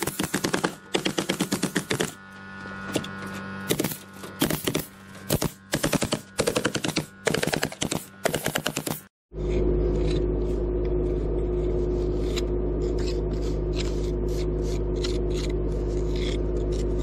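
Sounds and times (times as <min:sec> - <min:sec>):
steady hum: 0:00.0 - 0:17.0
steady low hum: 0:00.0 - 0:17.0.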